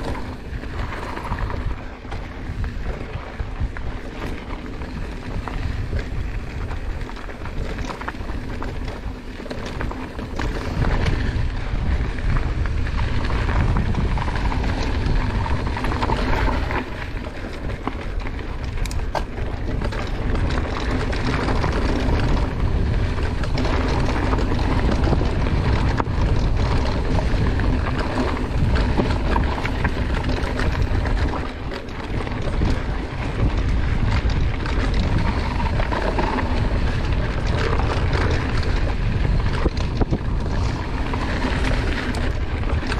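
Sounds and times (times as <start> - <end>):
bike rattling: 0.0 - 42.9
tyres rumbling over dirt and stones: 0.0 - 42.9
wind buffeting microphone: 0.0 - 42.9.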